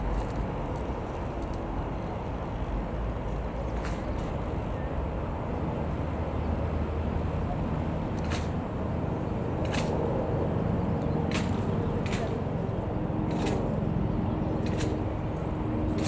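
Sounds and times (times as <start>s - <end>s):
helicopter low rumble: 0.0s - 16.0s.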